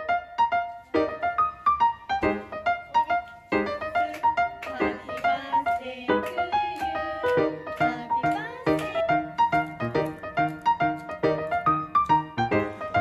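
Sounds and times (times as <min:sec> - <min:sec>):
lively piano melody: 0:00.0 - 0:13.0.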